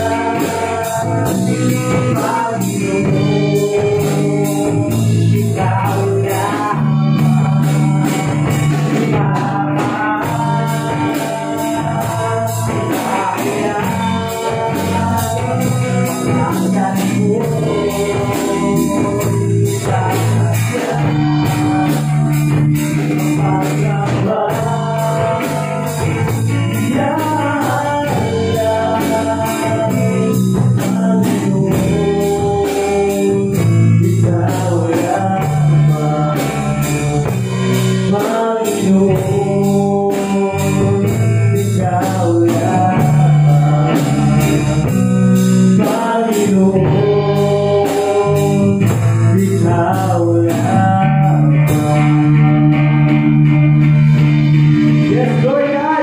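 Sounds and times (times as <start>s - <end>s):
male voices singing: 0.0s - 53.2s, 54.7s - 56.0s
drum kit beat: 0.0s - 56.0s
electric bass: 0.0s - 56.0s.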